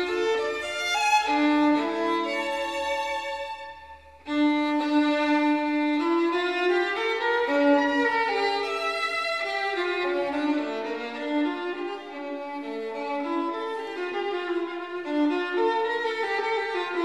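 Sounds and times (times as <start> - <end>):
bowed violin melody: 0.0 - 17.0.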